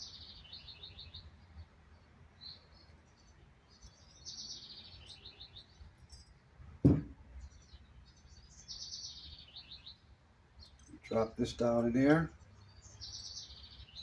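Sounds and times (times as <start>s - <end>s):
songbird singing faintly: 0.0s - 14.0s.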